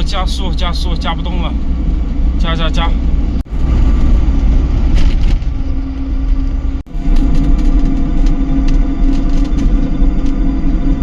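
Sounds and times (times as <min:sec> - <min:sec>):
road and wind rumble: 0:00.0 - 0:11.0
vehicle drive hum: 0:00.0 - 0:11.0.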